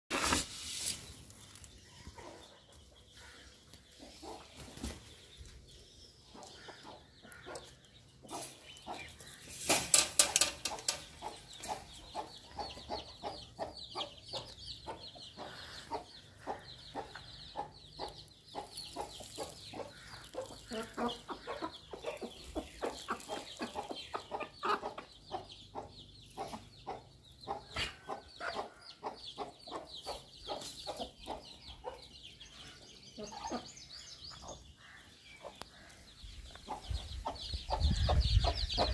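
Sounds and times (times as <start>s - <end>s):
chickens clucking: 0.2s - 38.9s.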